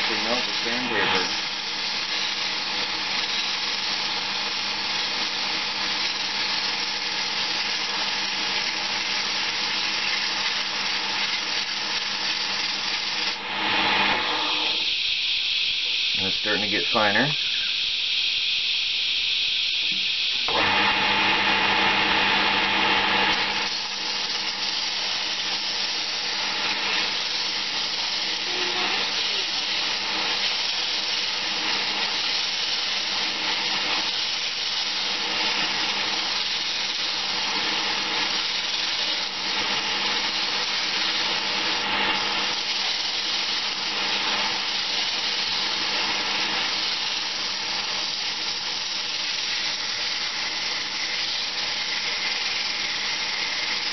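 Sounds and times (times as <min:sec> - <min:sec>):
lathe motor hum: 0:00.0 - 0:53.9
sanding hiss: 0:00.0 - 0:53.9.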